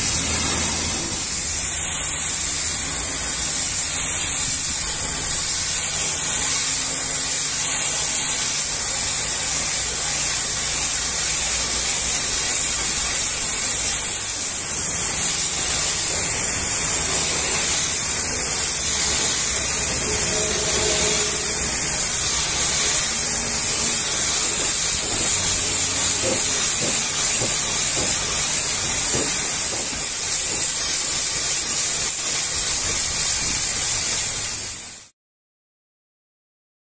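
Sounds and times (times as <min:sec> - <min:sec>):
pressure washer spraying metal tank: 0:00.0 - 0:35.1.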